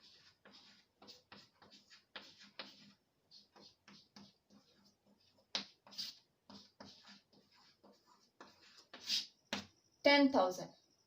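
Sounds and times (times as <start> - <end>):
pen writing strokes: 0.0 - 9.7.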